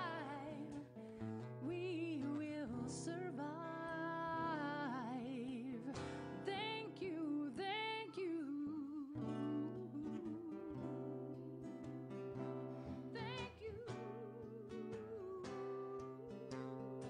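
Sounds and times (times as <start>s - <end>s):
acoustic guitar: 0.0s - 17.0s
woman singing with vibrato: 0.0s - 17.0s.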